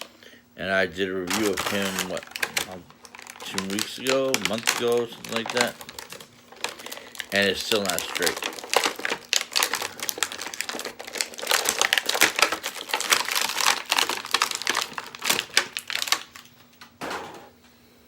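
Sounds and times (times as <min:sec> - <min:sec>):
plastic packaging crinkling: 0:01.0 - 0:17.0.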